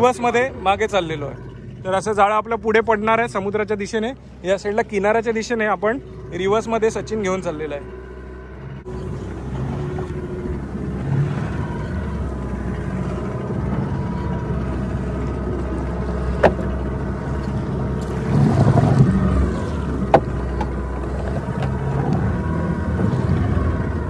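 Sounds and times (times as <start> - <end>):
boat engine running: 0.0 - 24.0
water noise: 0.0 - 24.0.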